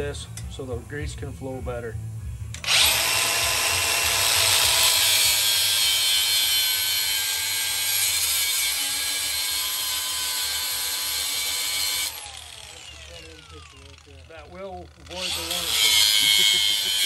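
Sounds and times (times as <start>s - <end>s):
angle grinder grinding steel: 2.6s - 17.0s.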